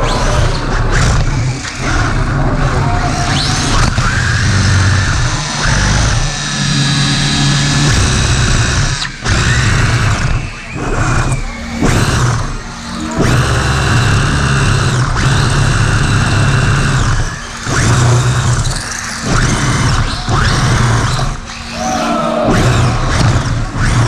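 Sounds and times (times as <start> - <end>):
electric motor buzzing and whining: 0.0 - 24.0.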